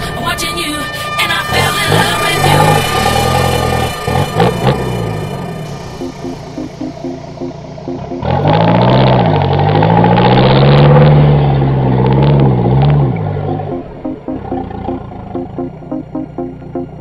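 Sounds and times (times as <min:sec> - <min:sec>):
electronic music with beat: 0:00.0 - 0:09.6, 0:12.3 - 0:17.0
engine revving hard: 0:00.8 - 0:07.0, 0:08.0 - 0:15.6.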